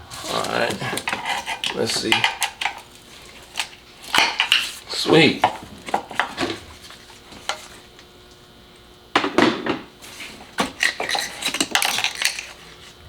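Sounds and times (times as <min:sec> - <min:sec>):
plastic and metal parts clattering: 0:00.0 - 0:07.8, 0:09.2 - 0:13.0.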